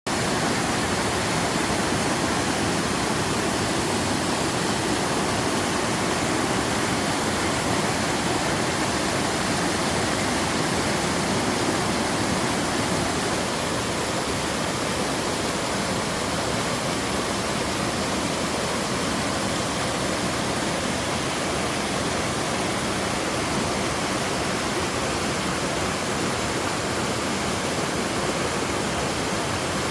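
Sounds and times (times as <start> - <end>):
waterfall rushing: 0.1 - 29.9.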